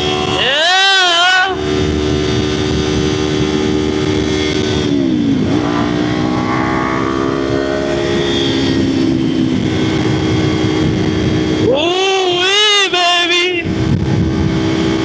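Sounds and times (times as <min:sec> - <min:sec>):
motorcycle engine while riding: 0:00.0 - 0:15.0
wind noise: 0:01.5 - 0:12.4, 0:13.5 - 0:15.0.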